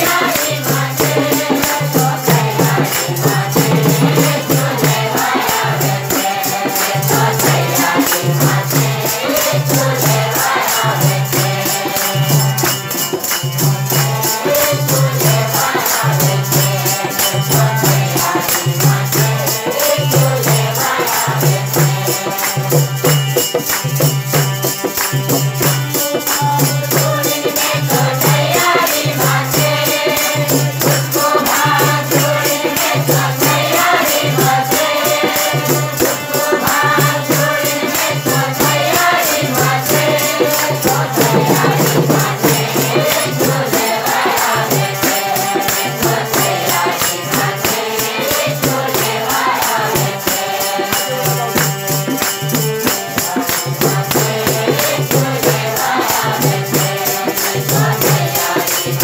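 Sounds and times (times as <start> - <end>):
group singing in chorus: 0.0 - 59.0
jingling hand percussion shaking: 0.0 - 59.0.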